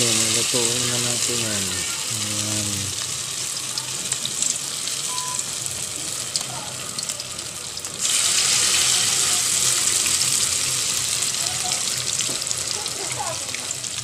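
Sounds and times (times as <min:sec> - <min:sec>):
oil sizzling with frying batter: 0:00.0 - 0:14.0.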